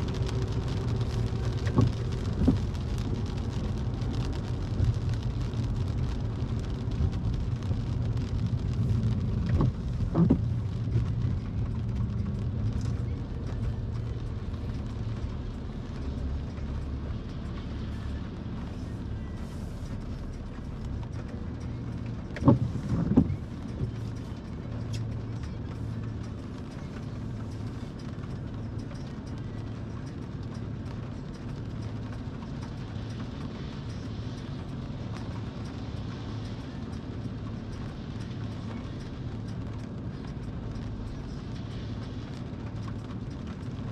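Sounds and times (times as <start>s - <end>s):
car interior rumble: 0.0s - 43.9s.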